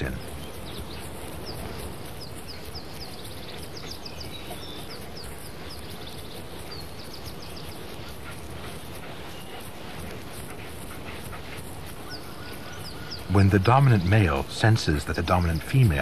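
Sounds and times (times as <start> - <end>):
high falling bird chirps: 0.0 - 16.0
steady outdoor hiss: 0.0 - 16.0.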